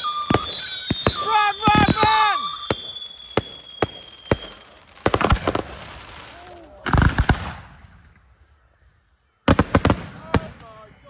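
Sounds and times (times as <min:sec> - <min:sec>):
fireworks bangs: 0:00.0 - 0:08.5, 0:09.5 - 0:11.0.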